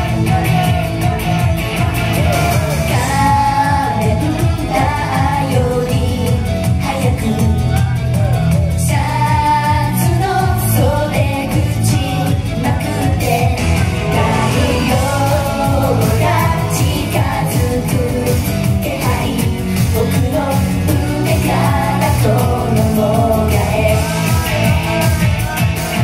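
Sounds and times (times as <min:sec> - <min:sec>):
pop backing track: 0:00.0 - 0:26.0
women singing: 0:00.0 - 0:26.0.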